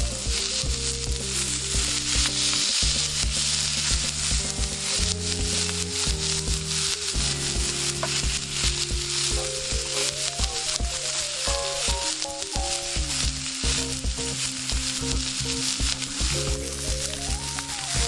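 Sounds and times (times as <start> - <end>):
background music with low beat: 0.0 - 18.0
steak sizzling in a skillet: 0.0 - 18.0.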